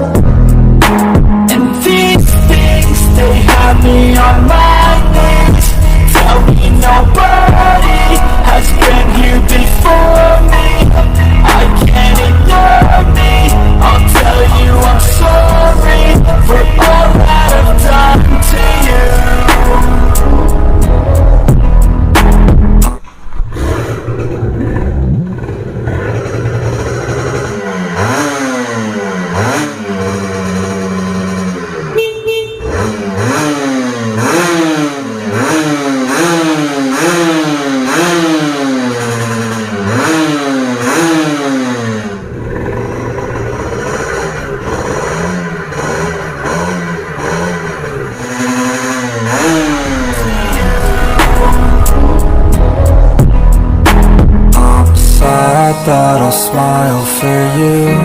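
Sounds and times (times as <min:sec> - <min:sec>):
two-stroke engine revving: 0:00.0 - 0:55.6.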